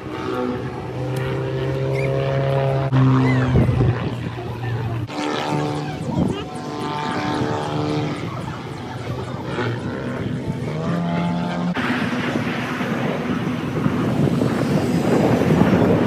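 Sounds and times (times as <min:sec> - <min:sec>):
jet roaring past: 0:00.0 - 0:16.0.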